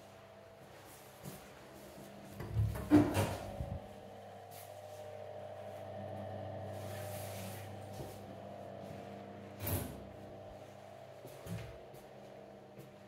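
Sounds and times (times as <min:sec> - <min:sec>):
low hum: 0:01.8 - 0:13.0.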